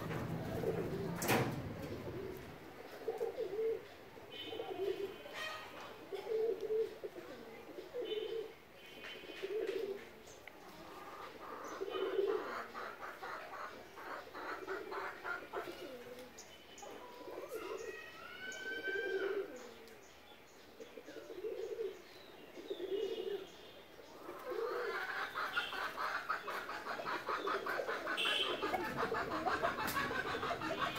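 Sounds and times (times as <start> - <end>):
dove cooing: 0.0 - 8.6, 9.2 - 10.1, 10.7 - 16.3, 17.0 - 19.8, 20.9 - 23.5, 24.1 - 30.9.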